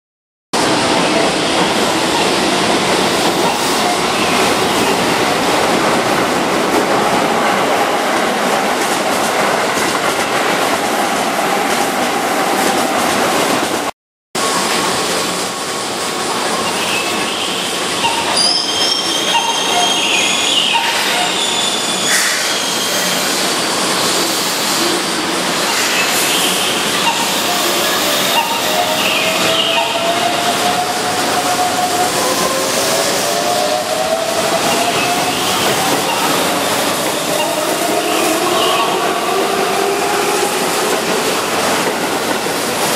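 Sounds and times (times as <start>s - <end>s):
train wheels on rails: 0.6s - 42.9s.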